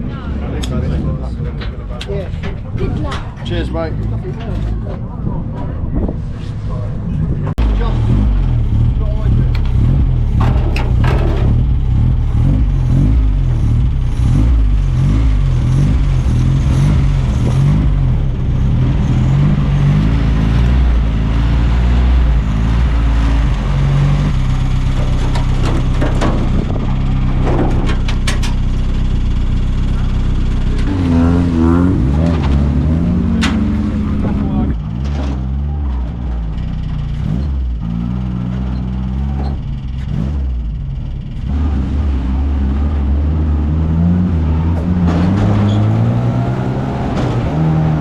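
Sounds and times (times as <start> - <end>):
car engine revving: 6.0 - 48.0.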